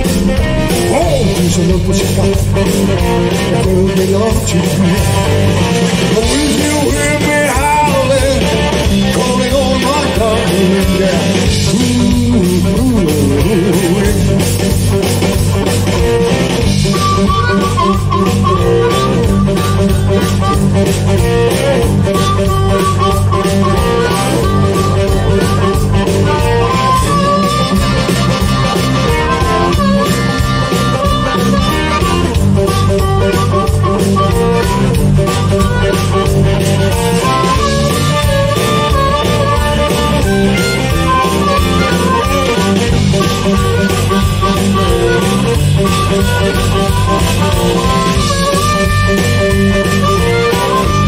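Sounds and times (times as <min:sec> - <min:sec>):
bass: 0:00.0 - 0:51.0
drums: 0:00.0 - 0:51.0
electric guitar: 0:00.0 - 0:51.0
harmonica: 0:00.0 - 0:51.0.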